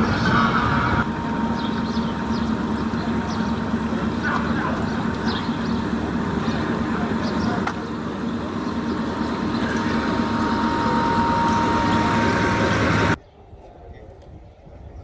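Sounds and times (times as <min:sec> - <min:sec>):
engine idling: 0:00.0 - 0:13.2
thin steady whine: 0:00.0 - 0:13.2
people talking: 0:00.0 - 0:15.0.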